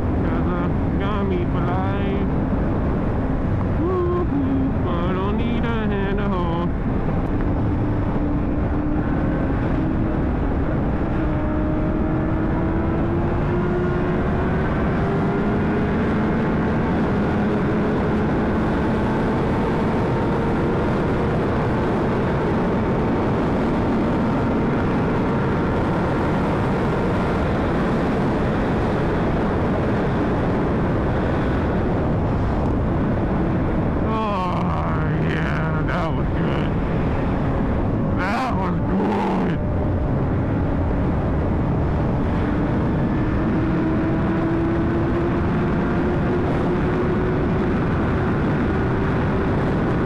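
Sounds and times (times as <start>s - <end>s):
wind rush: 0.0s - 50.0s.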